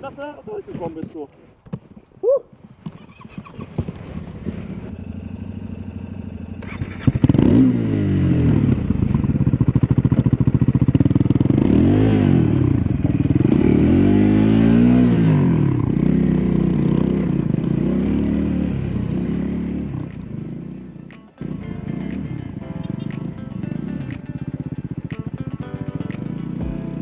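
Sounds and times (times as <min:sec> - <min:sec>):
motorcycle engine revving: 0:03.0 - 0:27.0.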